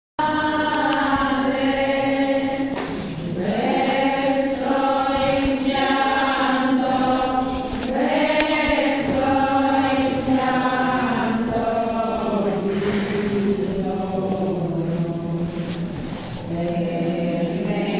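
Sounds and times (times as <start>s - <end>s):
slow sung chant: 0.2s - 17.9s.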